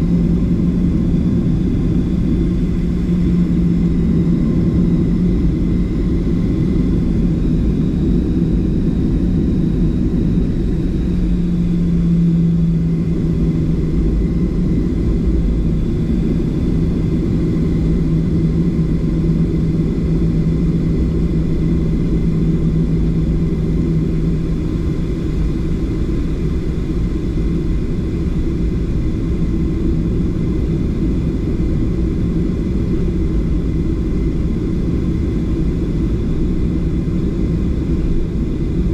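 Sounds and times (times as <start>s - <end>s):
jet engine rumble in cabin: 0.0s - 38.9s
steady hum: 0.0s - 38.9s.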